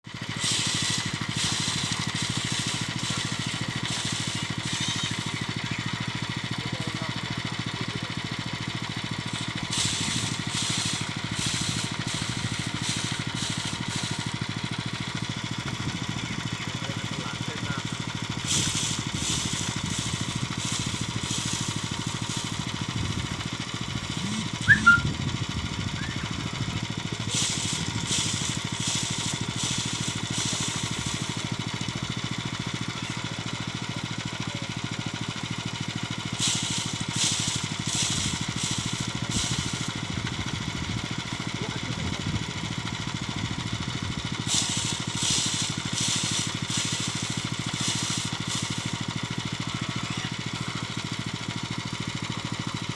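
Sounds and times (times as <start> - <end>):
thresher engine running: 0.0 - 52.9.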